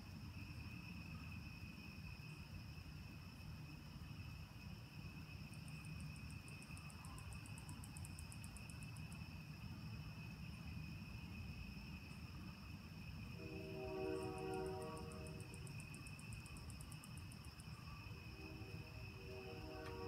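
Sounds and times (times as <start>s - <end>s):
crickets trilling: 0.0s - 20.0s
insect rapid pulsing call: 0.0s - 20.0s.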